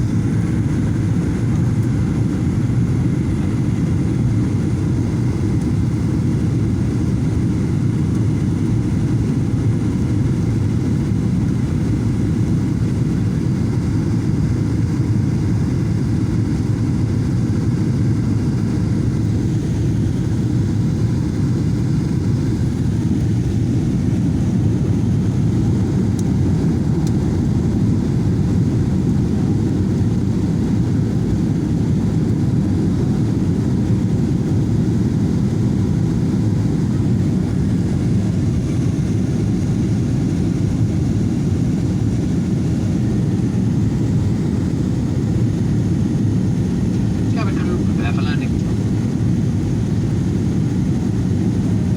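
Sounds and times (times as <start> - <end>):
airplane cabin engine rumble: 0.0 - 51.9.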